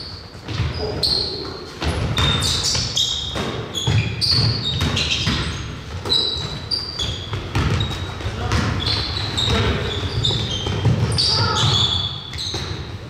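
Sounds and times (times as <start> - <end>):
sneakers squeaking on floor: 0.0 - 13.0
basketball bouncing: 0.4 - 13.0.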